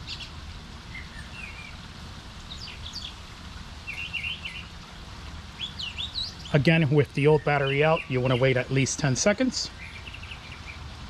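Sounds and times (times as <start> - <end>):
birds chirping: 0.0 - 1.8, 2.4 - 4.8, 5.5 - 10.9.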